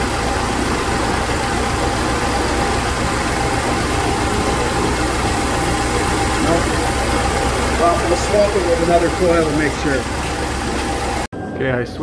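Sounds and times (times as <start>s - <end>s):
car engine idling: 0.0s - 11.3s.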